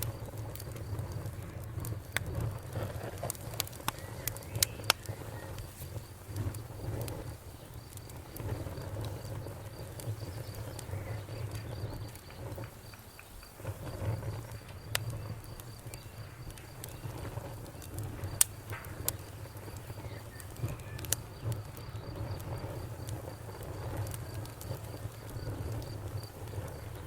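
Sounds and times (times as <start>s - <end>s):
low rumble of fire flames: 0.0s - 27.0s
wood fire crackling and popping: 0.0s - 27.0s.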